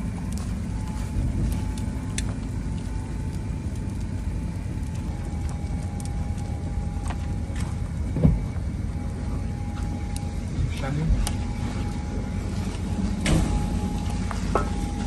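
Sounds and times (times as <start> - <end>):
faint steady whine: 0.0 - 15.0
heavy machinery rumbling: 0.0 - 15.0.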